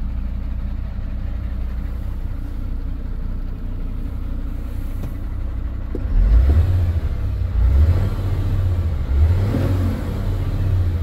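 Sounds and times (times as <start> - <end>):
diesel truck engine idling and revving: 0.0 - 11.0.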